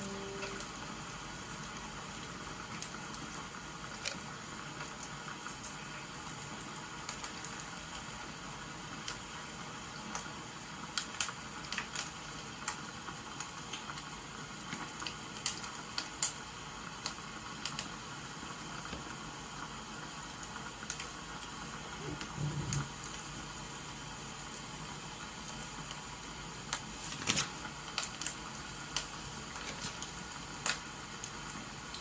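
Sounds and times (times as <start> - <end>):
rain hissing: 0.0 - 32.0
wood fire crackling: 0.1 - 32.0.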